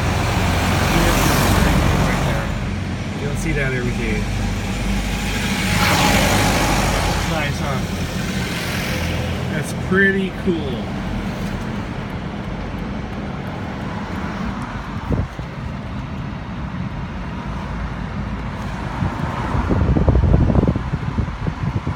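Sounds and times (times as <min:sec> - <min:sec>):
car engine and road rumble: 0:00.0 - 0:21.9.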